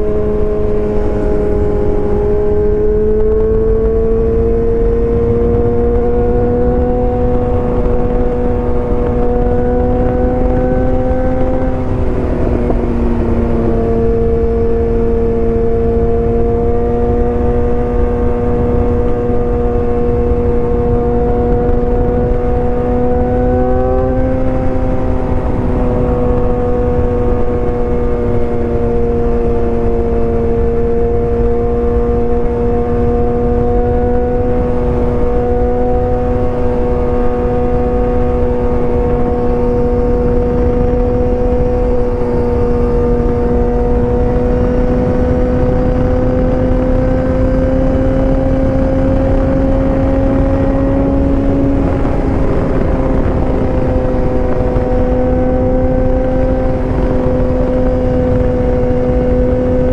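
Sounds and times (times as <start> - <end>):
motorcycle engine revving high: 0.0 - 59.9.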